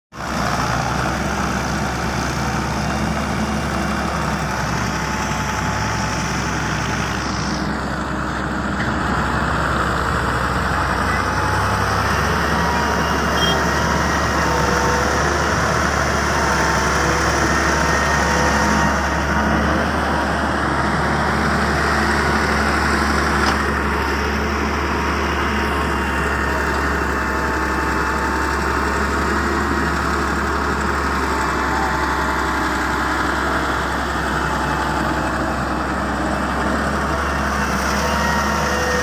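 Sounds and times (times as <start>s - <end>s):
diesel machinery engine hum: 0.1s - 39.0s.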